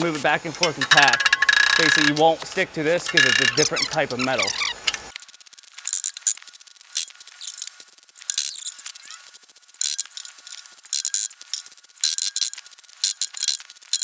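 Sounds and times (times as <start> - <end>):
welding arc sizzle: 0.0 - 14.0.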